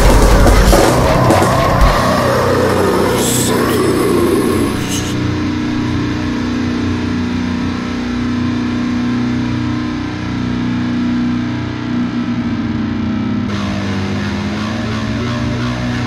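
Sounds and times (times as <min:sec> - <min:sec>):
droning metal music: 0:00.0 - 0:16.0.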